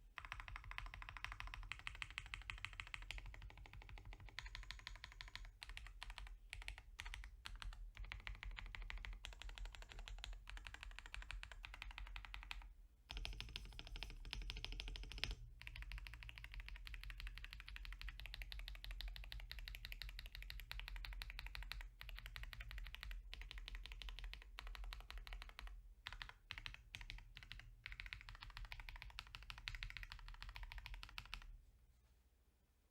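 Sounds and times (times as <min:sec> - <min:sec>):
mechanical keyboard typing: 0:00.2 - 0:31.5.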